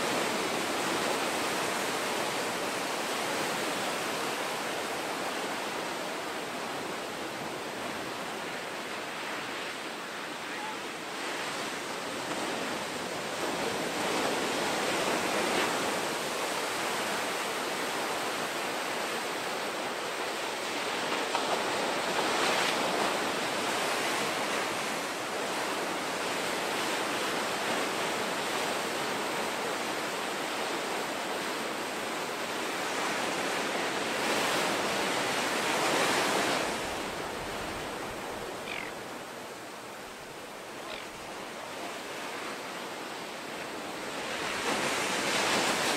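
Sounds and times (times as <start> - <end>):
ocean waves crashing: 0.0 - 45.9.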